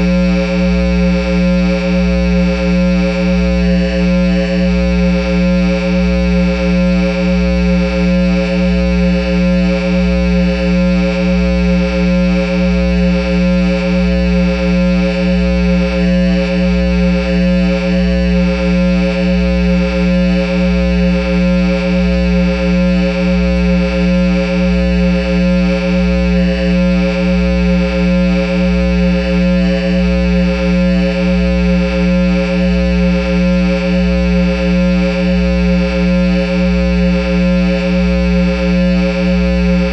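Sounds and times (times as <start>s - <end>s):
amplifier electrical hum: 0.0s - 39.9s.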